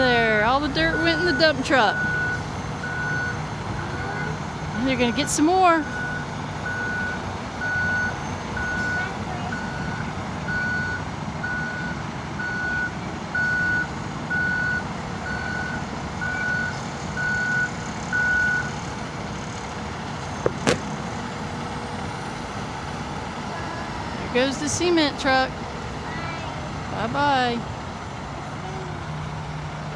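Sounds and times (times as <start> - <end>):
truck engine running: 0.0 - 29.9
truck reversing alarm beeping: 0.0 - 29.9.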